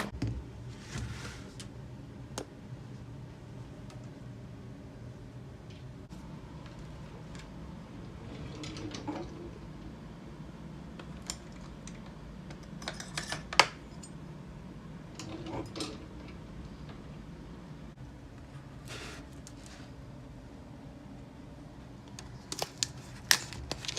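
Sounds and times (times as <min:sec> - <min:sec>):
low room hum: 0:00.0 - 0:23.9.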